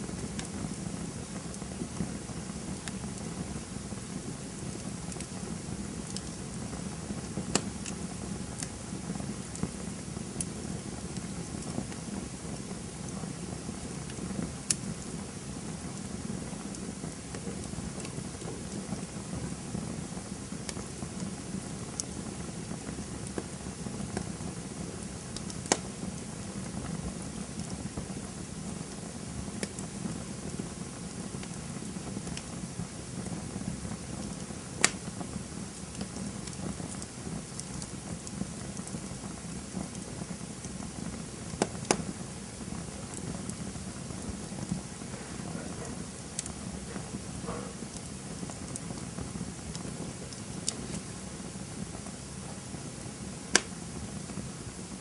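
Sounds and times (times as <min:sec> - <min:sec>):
campfire crackling: 0:00.0 - 0:55.0
sharp fire pops: 0:00.0 - 0:55.0.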